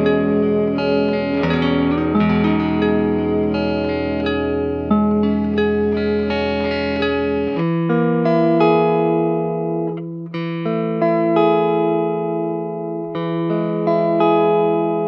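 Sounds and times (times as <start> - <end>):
electric guitar melody: 0.0 - 15.0.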